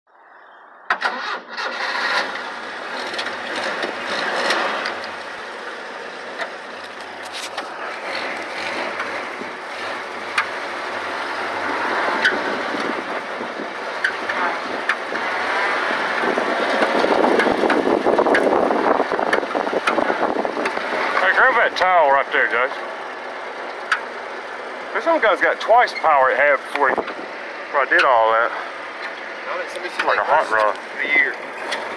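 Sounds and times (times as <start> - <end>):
jeep engine starting and running: 0.8 - 31.9.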